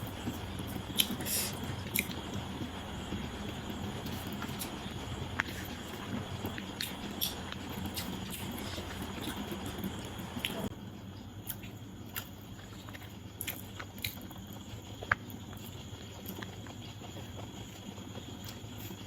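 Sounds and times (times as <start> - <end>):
person chewing food: 0.0 - 10.8, 11.4 - 19.0.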